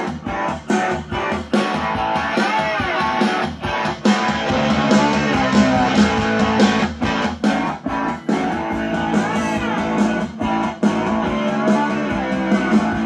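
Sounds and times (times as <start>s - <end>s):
guitar music through a speaker: 0.0s - 13.0s.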